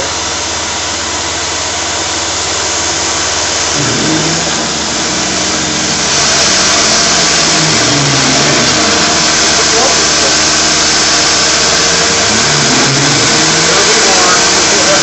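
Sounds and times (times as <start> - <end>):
milling machine cutting plastic: 0.0 - 15.0
shop vacuum rushing: 0.0 - 15.0
humming tone shifting pitch: 2.6 - 15.0.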